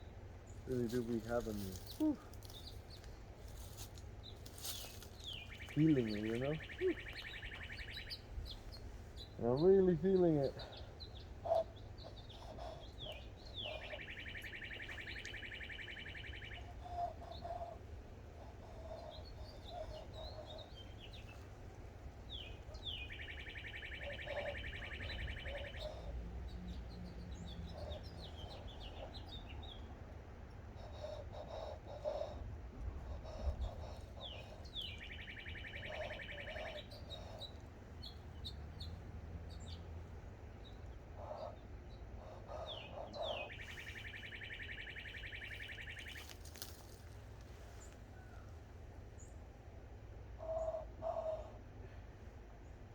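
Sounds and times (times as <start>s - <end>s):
songbird song with buzzy trill: 0.0s - 18.4s, 19.0s - 29.9s, 33.5s - 47.2s
bird chirps: 0.0s - 30.0s, 33.2s - 48.6s.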